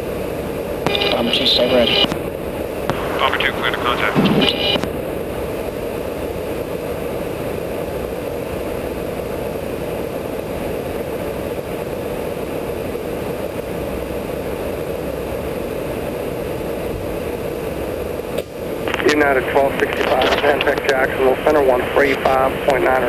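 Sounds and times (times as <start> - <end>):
aircraft engine and slipstream drone: 0.0 - 23.0.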